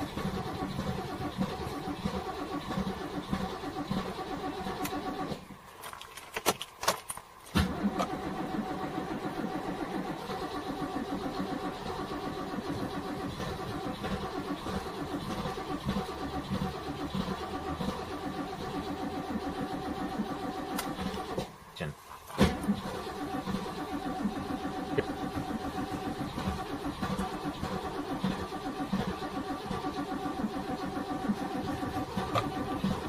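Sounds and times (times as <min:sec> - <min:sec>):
car engine starting and idling: 0:00.0 - 0:33.0.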